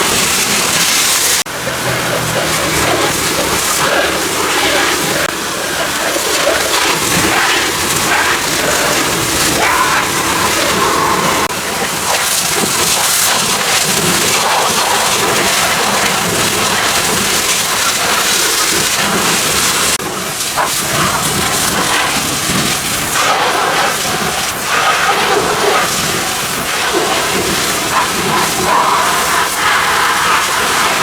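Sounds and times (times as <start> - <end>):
pressure washer spraying car: 0.0 - 31.0.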